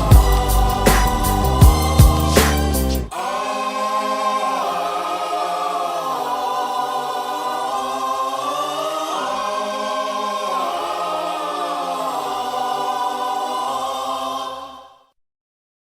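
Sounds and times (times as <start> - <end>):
wordless choir singing chords: 0.0 - 15.2.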